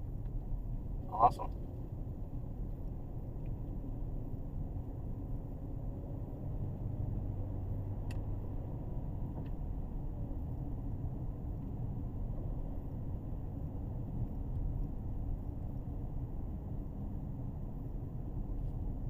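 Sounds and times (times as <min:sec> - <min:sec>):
road and engine noise in car cabin: 0:00.0 - 0:19.0.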